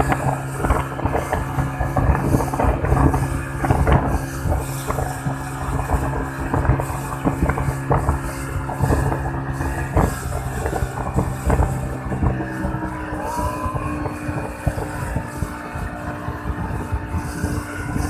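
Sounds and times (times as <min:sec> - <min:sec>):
hull slamming over waves: 0:00.0 - 0:18.0
outboard motor running at high speed: 0:00.0 - 0:18.0.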